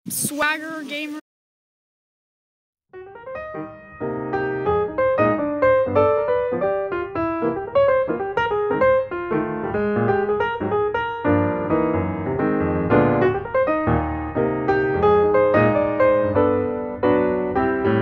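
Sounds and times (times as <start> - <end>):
piano music: 2.9 - 18.0.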